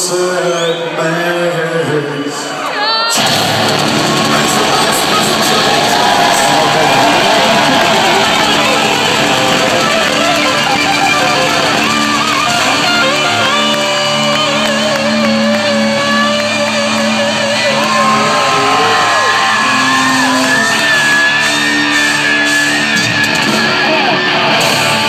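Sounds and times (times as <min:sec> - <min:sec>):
bending electric guitar lead: 0:03.1 - 0:25.0
live heavy rock band: 0:03.1 - 0:25.0.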